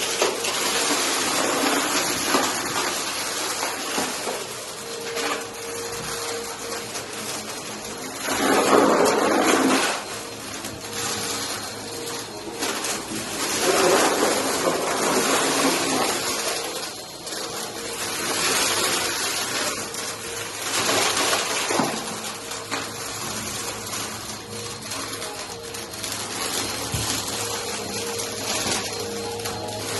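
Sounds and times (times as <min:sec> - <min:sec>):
vacuum cleaner on carpet: 0:00.0 - 0:29.9.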